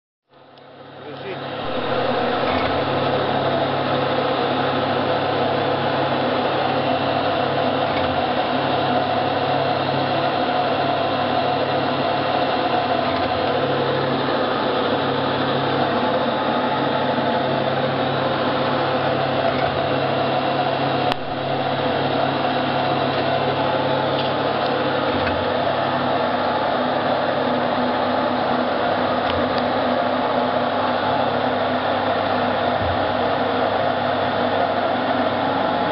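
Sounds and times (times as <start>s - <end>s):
machinery humming: 0.4s - 35.9s.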